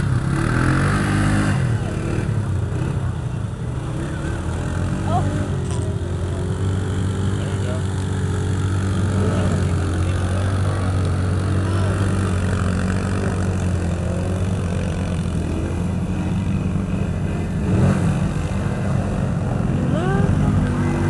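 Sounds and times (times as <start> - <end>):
atv engines running: 0.0 - 21.0.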